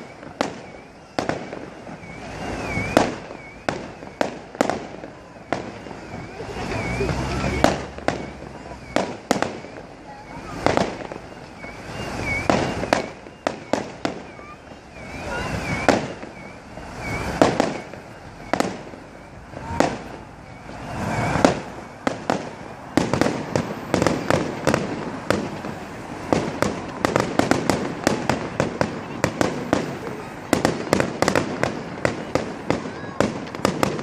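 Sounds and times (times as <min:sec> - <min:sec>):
fireworks bangs and crackling: 0:00.0 - 0:34.0
warbling high firework whistle: 0:00.0 - 0:34.0.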